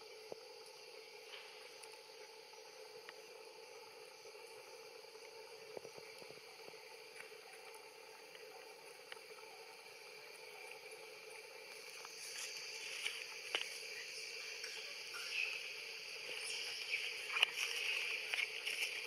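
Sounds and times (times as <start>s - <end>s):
faint insect drone: 0.0s - 19.0s.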